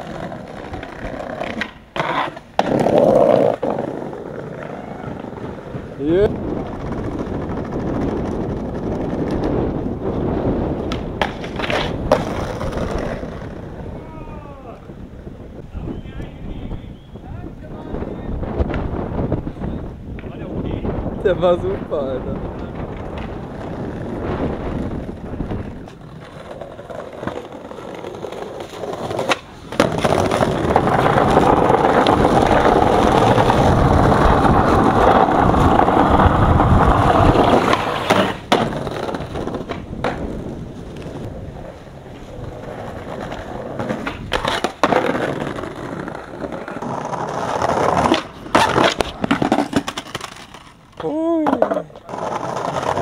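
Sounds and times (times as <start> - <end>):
skateboard clacking on ground: 0.0 - 14.1, 19.6 - 20.5, 22.5 - 53.0
skateboard clattering and skidding: 0.0 - 14.1, 22.5 - 53.0
skateboard wheels rolling on pavement: 0.0 - 53.0.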